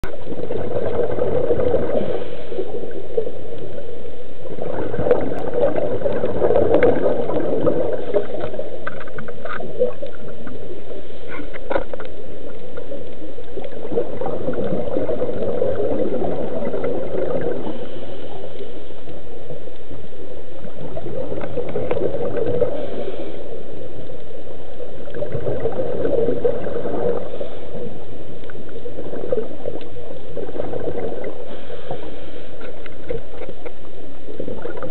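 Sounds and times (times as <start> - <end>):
diver's bubbles gurgling: 0.0 - 34.9
muffled underwater rush: 0.0 - 34.9.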